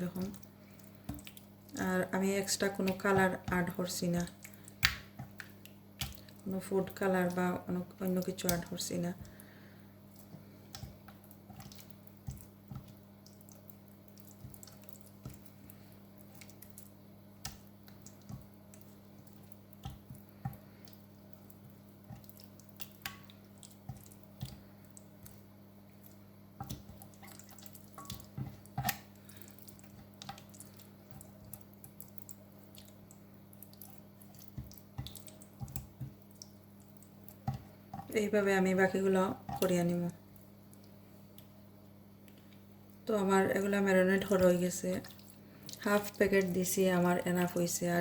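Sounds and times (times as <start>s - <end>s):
wet squelches of marinating meat: 0.0s - 48.0s.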